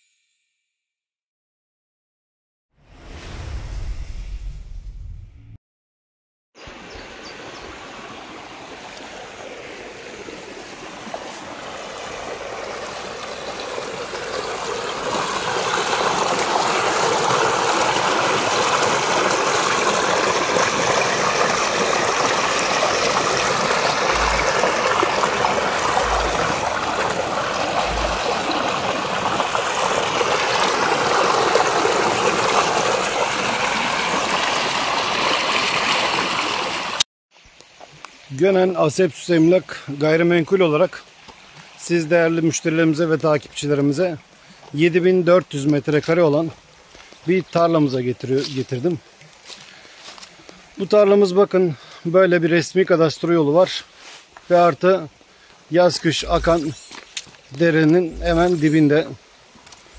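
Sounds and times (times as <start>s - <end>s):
creek burbling over stones: 7.3s - 39.2s, 39.9s - 59.9s.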